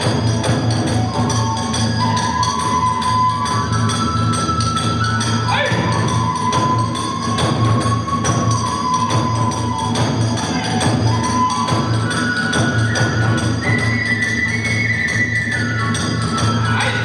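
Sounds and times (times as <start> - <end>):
hand cymbals clashing: 0.0 - 14.0, 15.7 - 17.0
bamboo flute long notes: 0.0 - 17.0
continuous drumming: 0.0 - 17.0.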